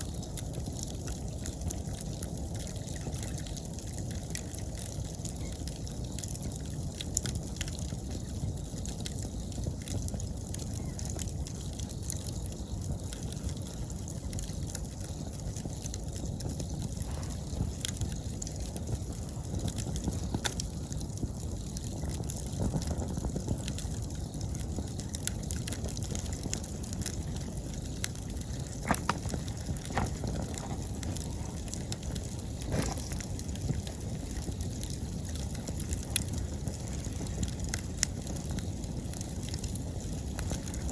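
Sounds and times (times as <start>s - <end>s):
campfire flames rushing: 0.0s - 40.9s
faint insects chirring: 0.0s - 40.9s
fire crackling and popping: 0.0s - 40.9s.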